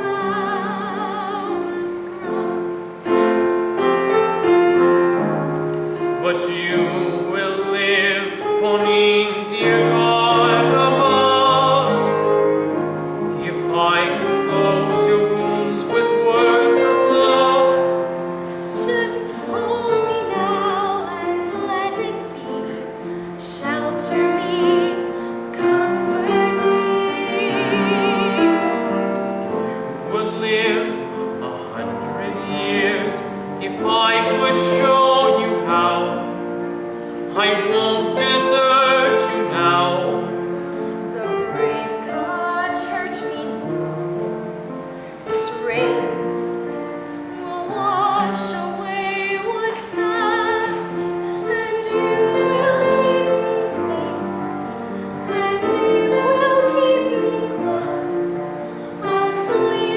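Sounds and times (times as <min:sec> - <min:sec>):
woman singing ballad: 0:00.0 - 0:03.6, 0:06.2 - 0:29.4, 0:37.2 - 0:44.3, 0:45.2 - 0:59.9
instrumental accompaniment: 0:00.0 - 0:59.9.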